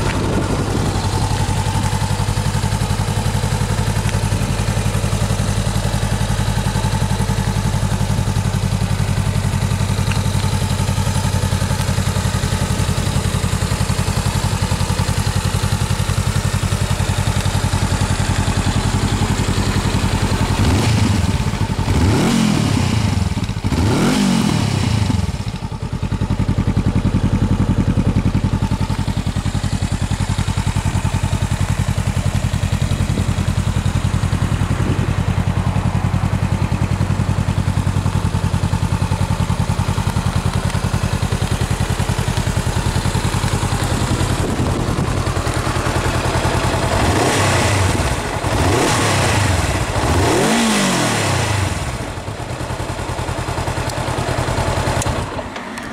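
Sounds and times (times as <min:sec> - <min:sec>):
motorcycle engine idling: 0:00.0 - 0:55.9
motorcycle throttle blips: 0:00.0 - 0:55.9.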